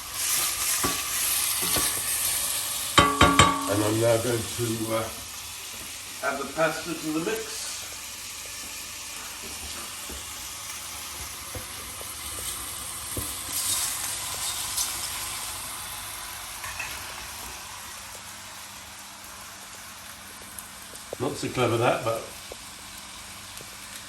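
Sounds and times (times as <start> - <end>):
food sizzling in oil: 0.0 - 24.0
pasta stirred in pan: 0.0 - 24.0.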